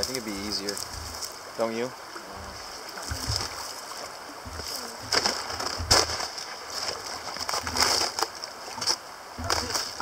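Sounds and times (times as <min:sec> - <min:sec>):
fish splashing and thrashing: 0:00.0 - 0:10.0
stream rushing: 0:00.0 - 0:10.0.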